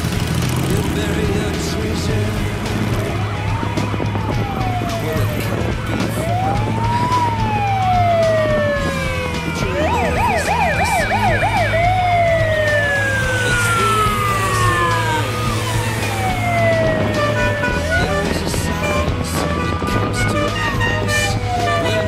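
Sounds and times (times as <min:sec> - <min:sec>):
motorcycles running: 0:00.0 - 0:22.0
police siren wailing and yelping: 0:02.7 - 0:22.0.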